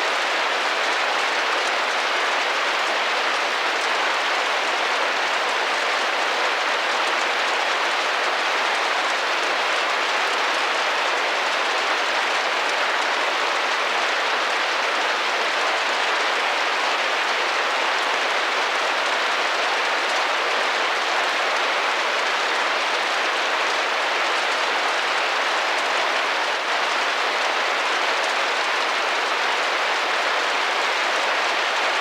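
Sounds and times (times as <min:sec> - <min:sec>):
rain pattering on a window: 0:00.0 - 0:32.0.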